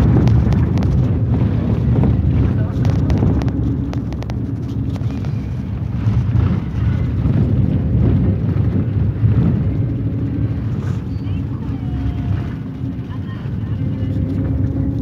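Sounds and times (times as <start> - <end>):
vehicle road and wind rumble: 0.0 - 15.0.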